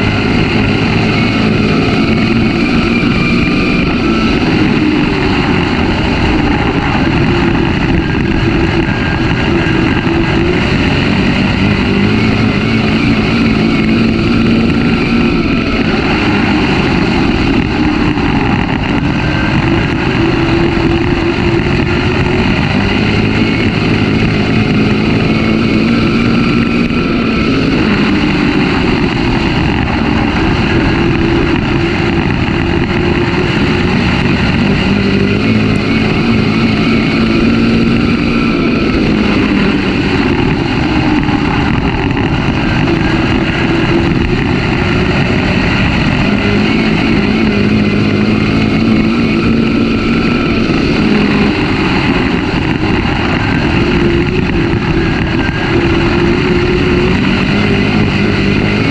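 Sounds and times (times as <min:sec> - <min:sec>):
race car engine running hard: 0:00.0 - 0:58.9.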